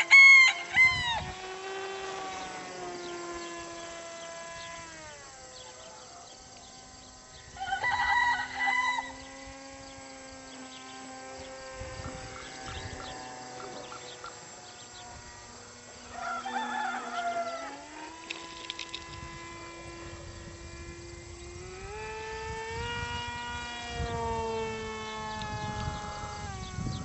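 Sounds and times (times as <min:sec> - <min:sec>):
rc plane motor whine: 0:00.0 - 0:27.0.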